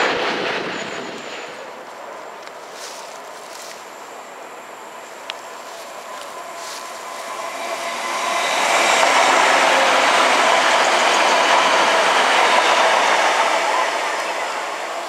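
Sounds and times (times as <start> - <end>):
diesel train running past: 0.0 - 15.0.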